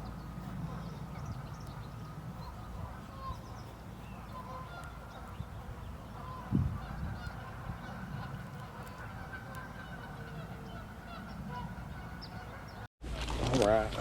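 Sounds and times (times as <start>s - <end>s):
geese honking: 0.0s - 12.9s
small bird calls: 0.0s - 12.9s.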